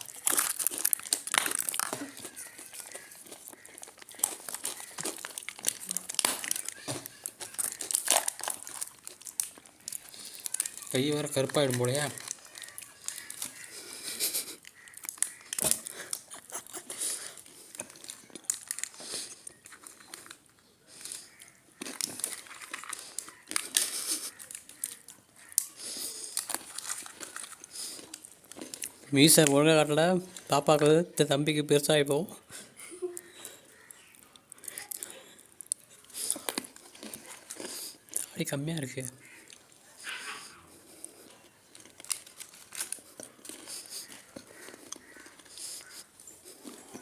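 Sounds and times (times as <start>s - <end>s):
wrapping crinkling and rustling: 0.0s - 47.0s.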